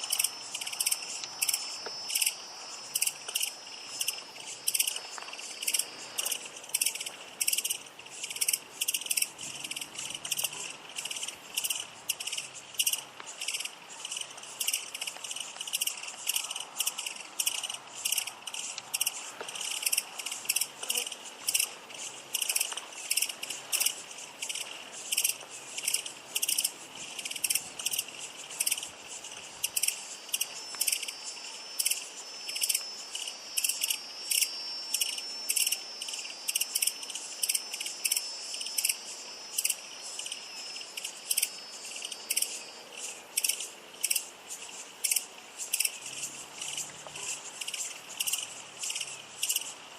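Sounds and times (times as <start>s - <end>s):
grasshopper chirping: 0.0s - 49.9s.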